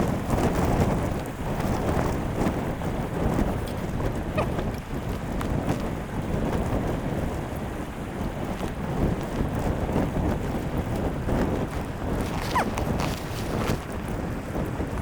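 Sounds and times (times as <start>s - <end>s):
heavy rain on a tent: 0.0s - 15.0s.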